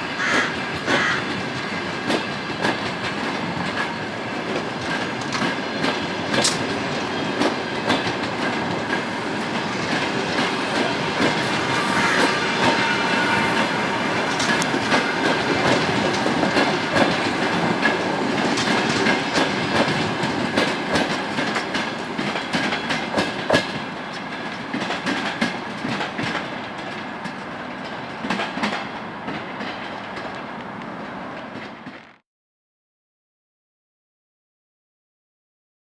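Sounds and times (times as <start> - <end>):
train wheels clicking over rail joints: 0.0 - 32.2.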